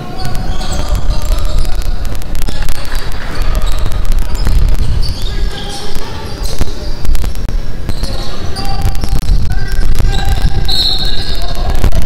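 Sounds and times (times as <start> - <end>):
sneakers squeaking: 0.0 - 7.2, 7.8 - 11.6
low rumble of hall: 0.0 - 12.0.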